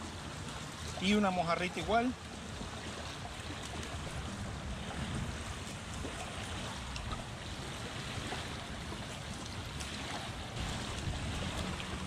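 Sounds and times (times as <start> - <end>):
small waves washing ashore: 0.0 - 12.0.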